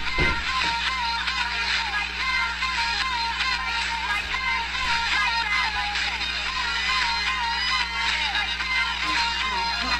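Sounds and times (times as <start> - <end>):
song with sliding melody: 0.0 - 9.9
steady low hum: 0.0 - 9.9.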